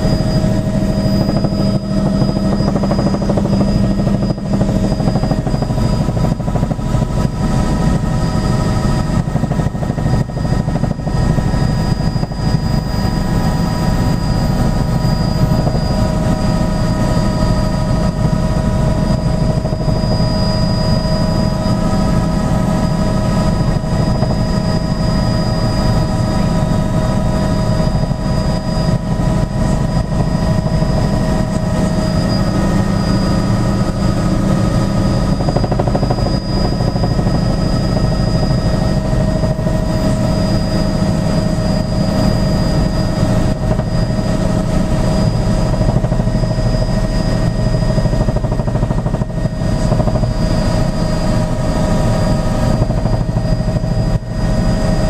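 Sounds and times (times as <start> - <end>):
helicopter engine and rotor drone: 0.0 - 55.0
high-pitched whines: 0.0 - 55.0.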